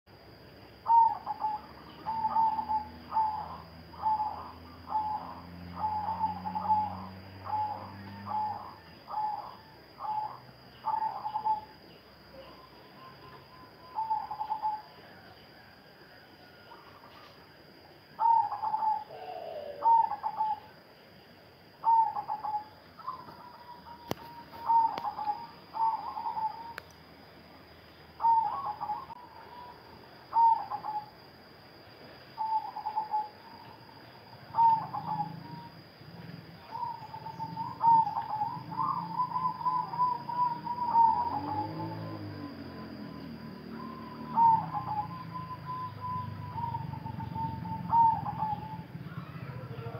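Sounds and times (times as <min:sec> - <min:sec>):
dove cooing: 0:00.8 - 0:17.4, 0:18.2 - 0:20.8, 0:21.8 - 0:26.8, 0:28.2 - 0:31.2, 0:32.4 - 0:49.9.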